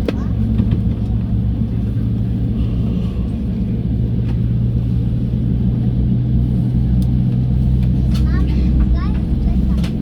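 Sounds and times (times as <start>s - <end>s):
aircraft cabin engine hum: 0.0s - 10.0s.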